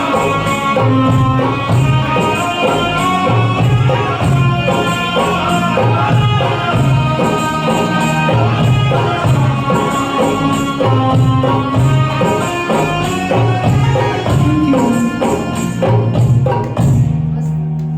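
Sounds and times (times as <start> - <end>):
instrumental music with beat: 0.0 - 17.9
low bass notes: 0.0 - 17.9.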